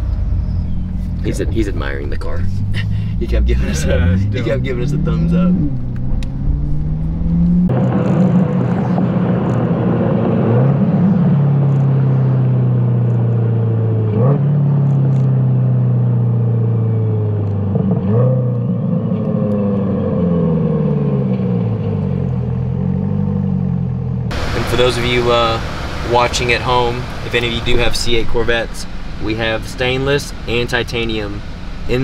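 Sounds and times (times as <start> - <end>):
car engine exhaust at low revs: 0.0 - 32.0
engine revving: 0.0 - 32.0.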